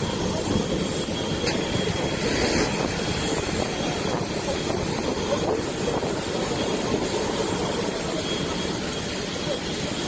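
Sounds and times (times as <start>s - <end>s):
jet engines taxiing: 0.0s - 10.0s.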